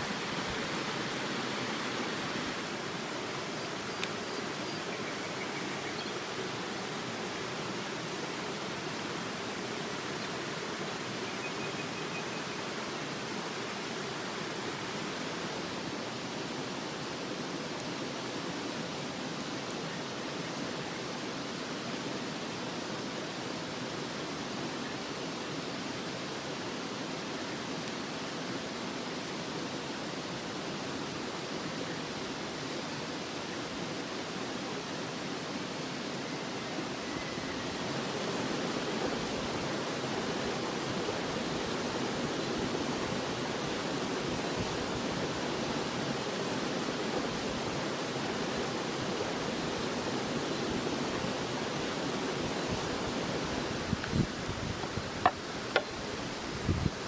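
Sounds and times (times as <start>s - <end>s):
running water rushing: 0.0s - 24.5s, 25.2s - 57.0s.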